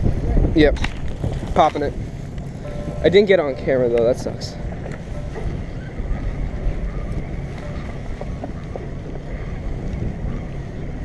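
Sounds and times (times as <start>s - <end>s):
boat and water noise: 0.0s - 11.0s
wind buffeting microphone: 0.0s - 11.0s.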